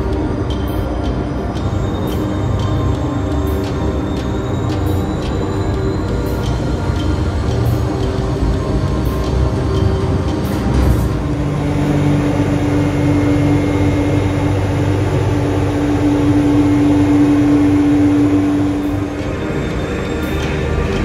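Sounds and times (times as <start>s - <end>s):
hydraulic machinery humming: 0.0s - 21.0s
steady tone: 0.0s - 21.0s.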